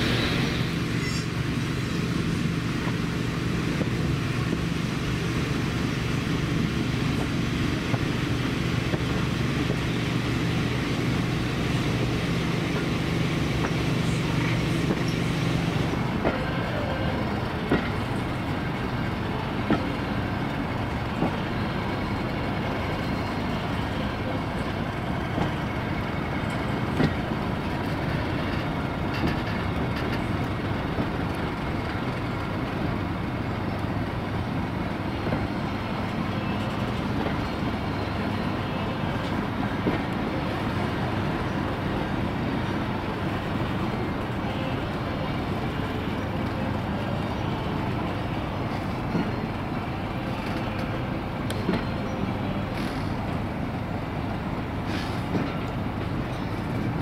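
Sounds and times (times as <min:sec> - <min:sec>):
rail joint clicks: 0:00.0 - 0:57.0
wheels rumbling on rails: 0:00.0 - 0:57.0.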